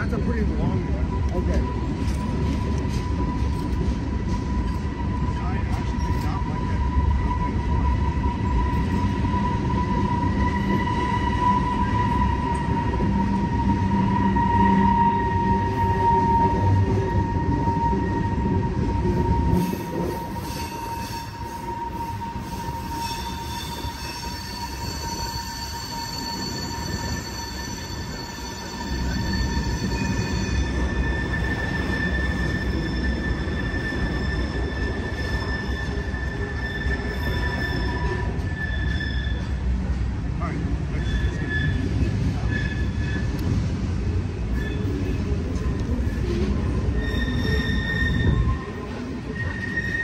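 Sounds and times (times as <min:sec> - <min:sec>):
train wheels squealing: 0:00.0 - 0:39.7, 0:40.9 - 0:43.7, 0:44.3 - 0:50.0
freight train rumble: 0:00.0 - 0:50.0.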